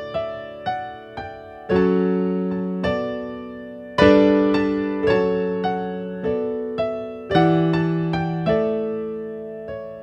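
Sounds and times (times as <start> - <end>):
slow piano music: 0.0 - 10.0.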